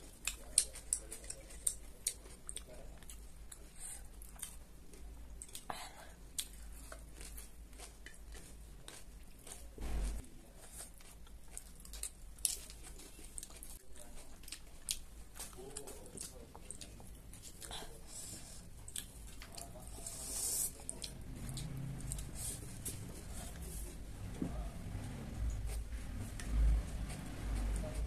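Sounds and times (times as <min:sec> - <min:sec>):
chewing crunchy vegetables: 0:00.0 - 0:28.0.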